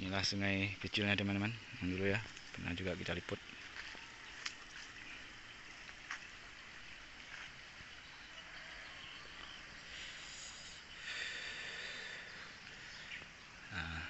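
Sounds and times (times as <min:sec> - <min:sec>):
insects buzzing: 0:00.0 - 0:14.0
steady outdoor hiss: 0:00.0 - 0:14.0.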